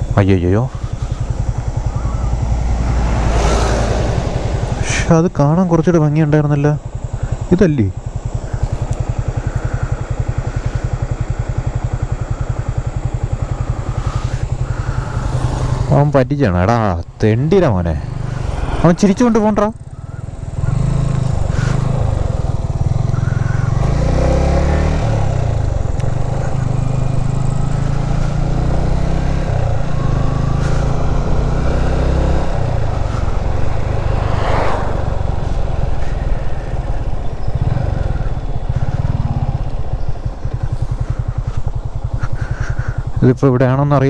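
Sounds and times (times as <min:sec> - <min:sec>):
motorcycle engine rumble: 0:00.0 - 0:44.0.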